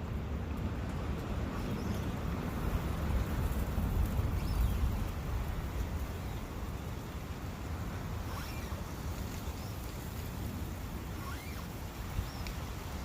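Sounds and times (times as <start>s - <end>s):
wind blowing with low rumble: 0.0s - 13.0s.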